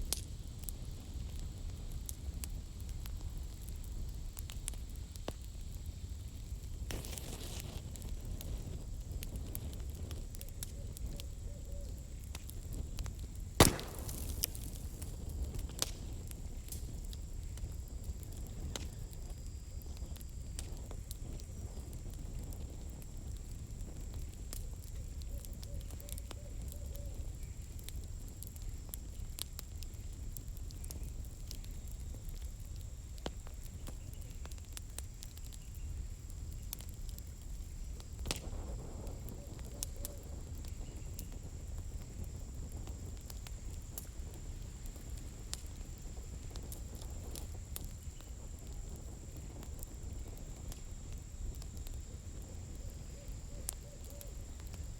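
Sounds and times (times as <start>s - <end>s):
campfire crackling: 0.0s - 54.9s
low steady fire rumble: 0.0s - 54.9s.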